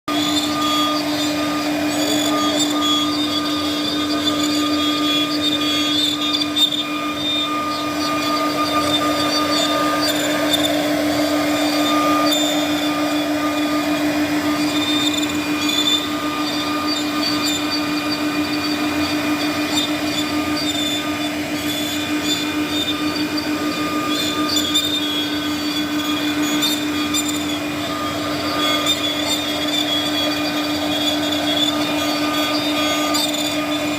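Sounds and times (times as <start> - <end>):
router spindle whine: 0.0 - 33.9
bit cutting wood: 0.1 - 33.9.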